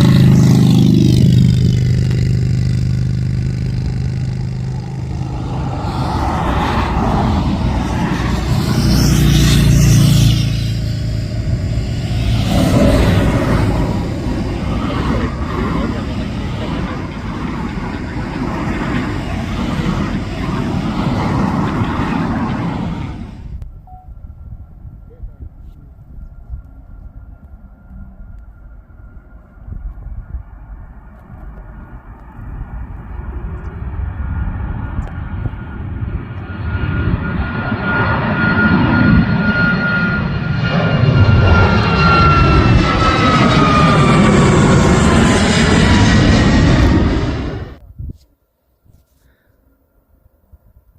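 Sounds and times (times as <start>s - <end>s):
jet engines roaring: 0.0s - 47.8s.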